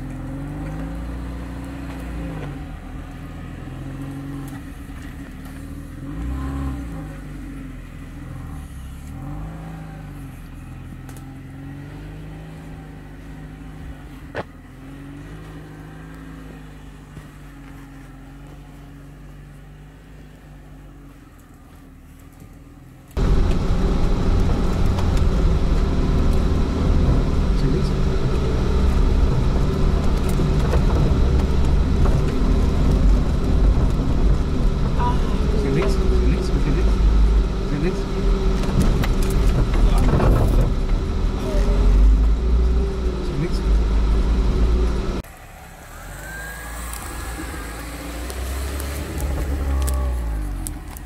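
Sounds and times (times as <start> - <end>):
car engine pulling away: 0.0 - 51.0.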